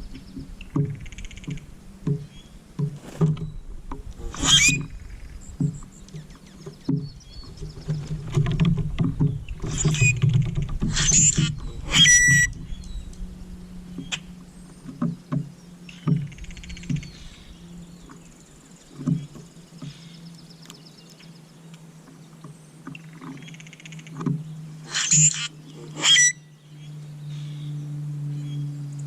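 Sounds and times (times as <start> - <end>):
birds calling in buzzy bursts: 0.0 - 29.0
steady low hum: 0.0 - 29.0.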